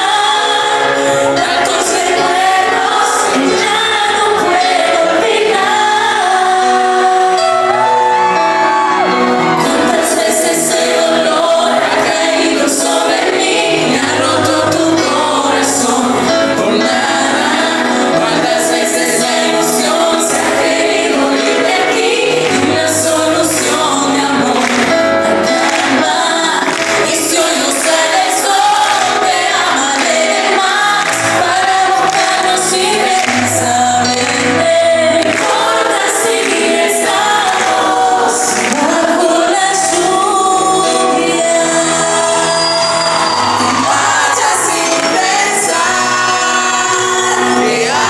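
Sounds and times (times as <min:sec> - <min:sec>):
women singing together: 0:00.0 - 0:08.2, 0:08.9 - 0:48.0
pop band: 0:00.0 - 0:48.0.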